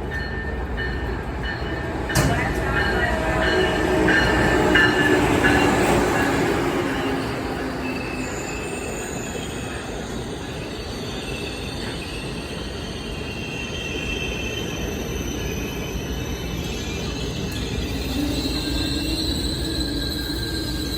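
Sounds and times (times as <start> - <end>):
train rail noise: 0.0 - 20.9
steel wheels squealing: 0.2 - 20.9.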